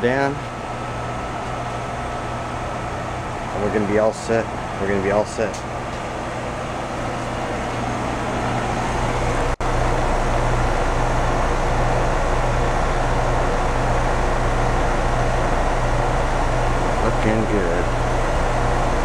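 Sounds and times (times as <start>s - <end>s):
air conditioner condenser hum: 0.0s - 19.0s
condenser fan rushing: 0.0s - 19.0s.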